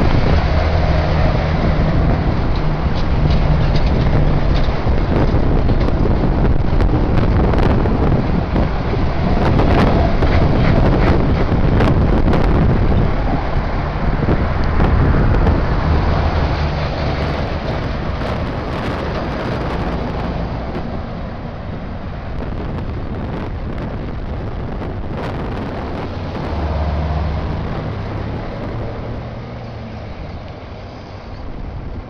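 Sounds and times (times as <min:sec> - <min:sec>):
heavy vehicles driving past: 0:00.0 - 0:32.0
wind buffeting microphone: 0:00.0 - 0:32.0.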